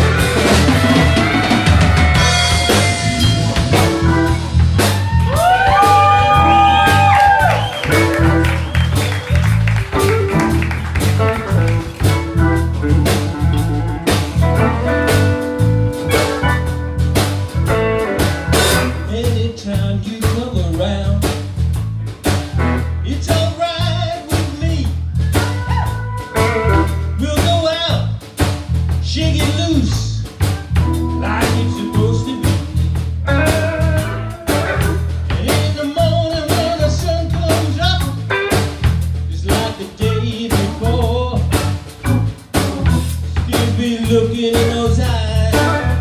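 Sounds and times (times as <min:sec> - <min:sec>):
drum hits: 0:00.0 - 0:19.6, 0:20.2 - 0:46.0
live band playing: 0:00.0 - 0:46.0.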